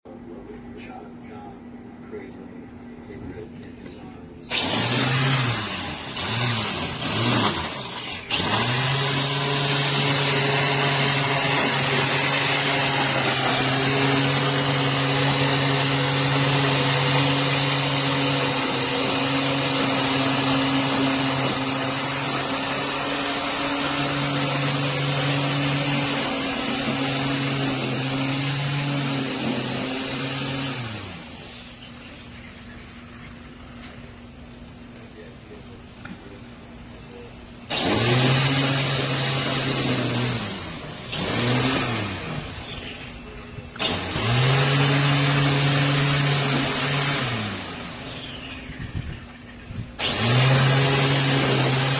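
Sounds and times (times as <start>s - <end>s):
electric string trimmer running: 4.5s - 34.1s, 37.6s - 51.9s.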